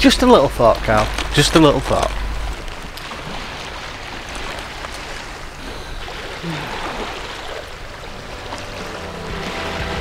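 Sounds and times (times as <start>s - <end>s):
waves washing against rocks: 0.0s - 10.0s
wind: 0.0s - 10.0s.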